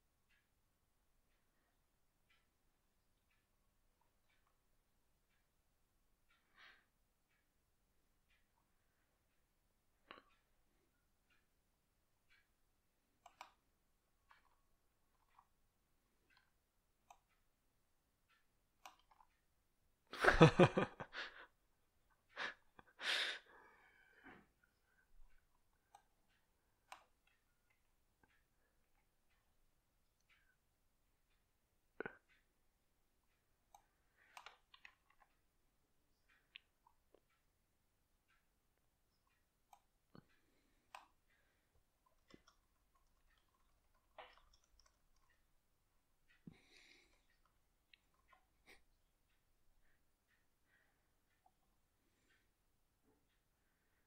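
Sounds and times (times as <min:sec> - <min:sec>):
quiet clicks and knocks: 0:00.0 - 0:23.0, 0:23.8 - 0:54.0.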